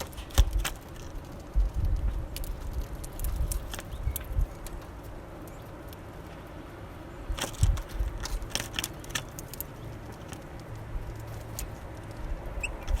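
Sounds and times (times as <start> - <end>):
birds pecking and cracking seeds: 0.0 - 13.0.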